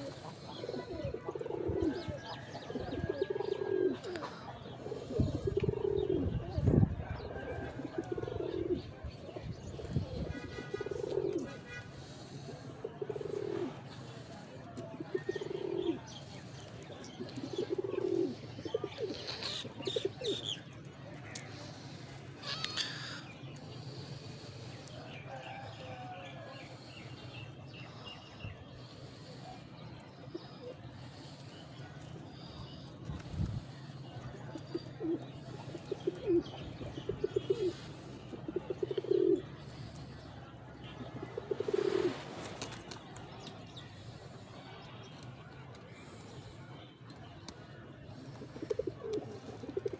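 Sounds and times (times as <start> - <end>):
pigeons cooing: 0.0 - 21.5, 22.4 - 44.7, 47.4 - 49.9.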